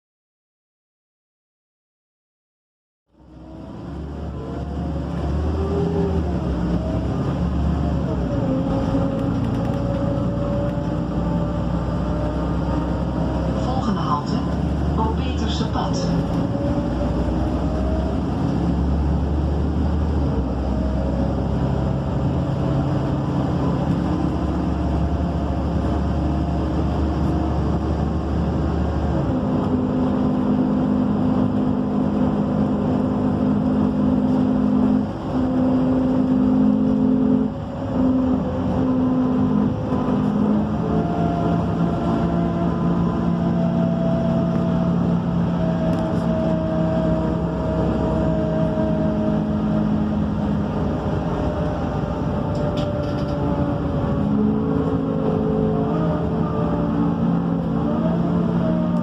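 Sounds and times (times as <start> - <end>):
bus engine low drone: 3.1 - 59.0
bus drivetrain high tones: 3.2 - 59.0.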